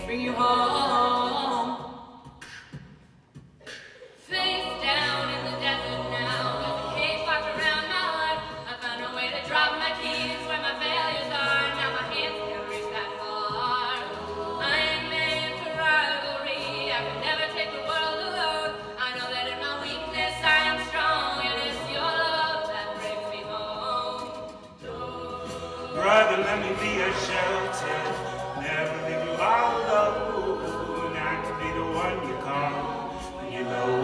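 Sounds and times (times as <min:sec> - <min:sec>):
a cappella group singing: 0:00.0 - 0:02.9, 0:03.6 - 0:34.0.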